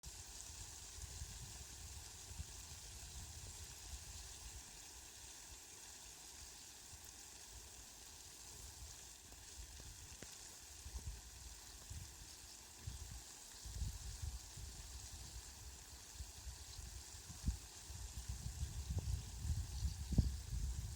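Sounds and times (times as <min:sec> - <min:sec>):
rain hiss: 0:00.0 - 0:20.9.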